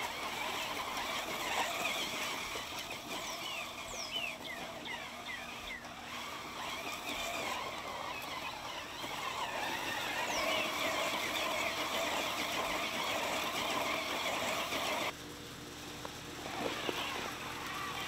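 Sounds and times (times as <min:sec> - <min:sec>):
electric motors running: 0:00.0 - 0:15.2, 0:15.8 - 0:18.0
tyres churning through grass: 0:00.0 - 0:18.0.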